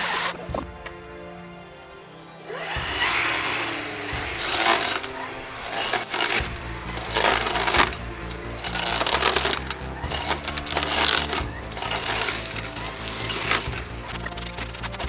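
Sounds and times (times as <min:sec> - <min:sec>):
wood being sawn: 0:00.0 - 0:00.5, 0:01.7 - 0:15.0.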